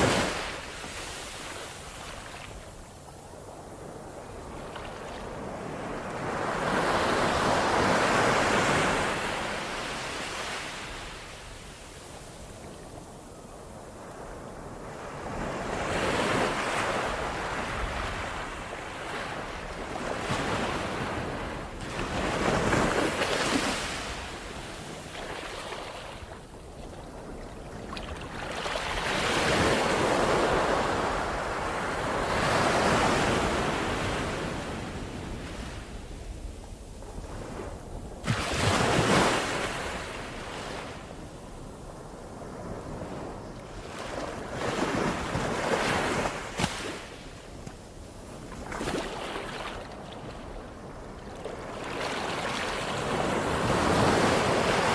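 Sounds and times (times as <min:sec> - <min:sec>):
waves breaking and washing in: 0:00.0 - 0:54.9
wind gusts on microphone: 0:00.0 - 0:54.9.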